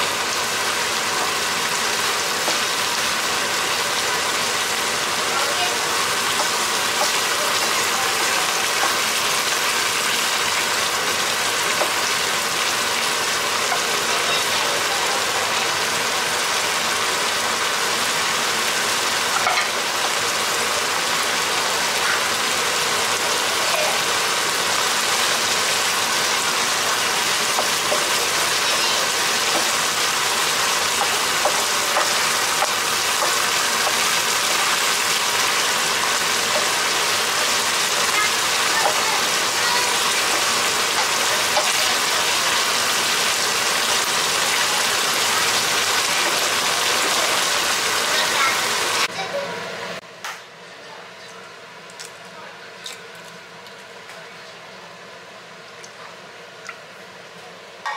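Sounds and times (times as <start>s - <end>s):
food sizzling in a frying pan: 0.0s - 49.8s.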